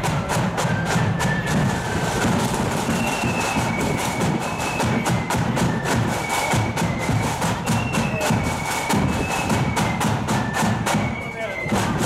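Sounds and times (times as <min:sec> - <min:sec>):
drum rattle: 0:00.0 - 0:11.1
flutes playing melody: 0:00.0 - 0:12.0.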